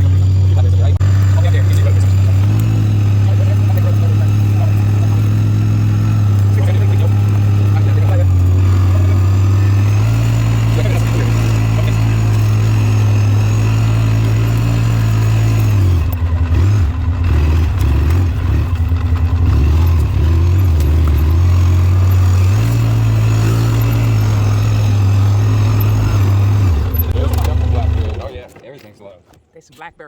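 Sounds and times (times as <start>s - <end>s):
atv engine running: 0.0s - 28.5s.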